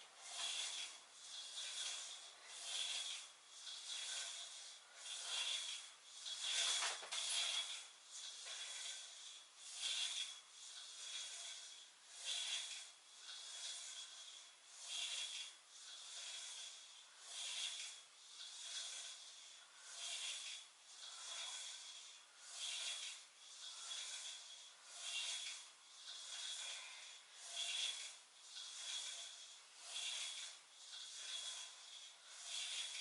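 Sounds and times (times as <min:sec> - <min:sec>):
rhythmic hissing swishes: 0:00.0 - 0:33.0.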